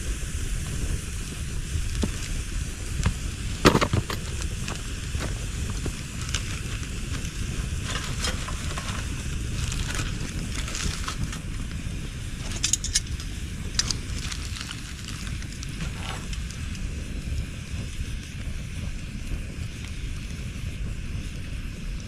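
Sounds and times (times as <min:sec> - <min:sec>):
bonfire crackling and popping: 0:00.0 - 0:22.0
steady low rumble: 0:00.0 - 0:22.0.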